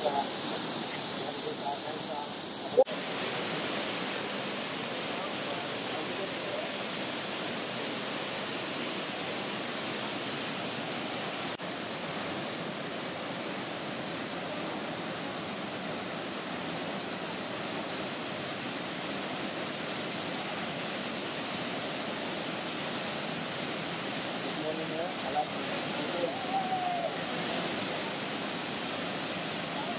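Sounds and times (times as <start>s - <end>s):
waterfall pouring into pool: 0.0s - 29.9s.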